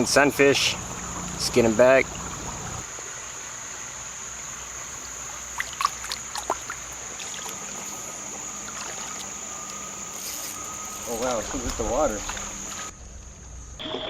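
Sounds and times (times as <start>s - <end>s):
constant high-pitched tone: 0.0s - 14.0s
creek water trickling: 0.0s - 14.0s.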